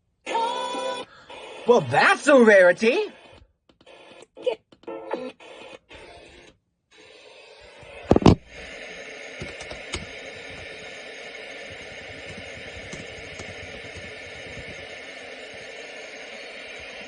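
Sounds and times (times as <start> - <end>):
radio static hiss: 1.3 - 6.4, 7.0 - 17.0.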